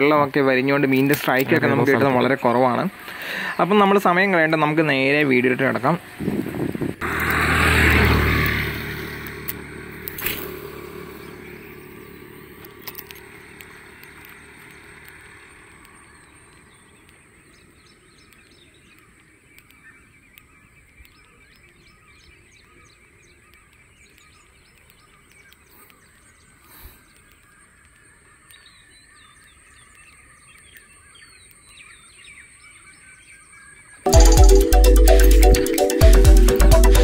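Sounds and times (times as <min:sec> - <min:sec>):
quiet outdoor background noise: 0:00.0 - 0:34.1.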